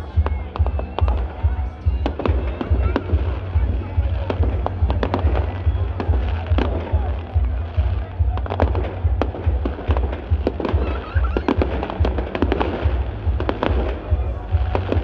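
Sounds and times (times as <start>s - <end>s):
fireworks bangs and crackles: 0.0s - 15.0s
music with pulsing bass: 0.0s - 15.0s.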